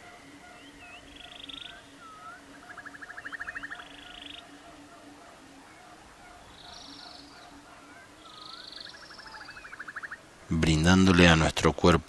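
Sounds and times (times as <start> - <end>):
fast rattling trill: 0.0 - 10.1
swooping whistles: 0.0 - 10.2
soft pulsing chorus: 0.0 - 10.5.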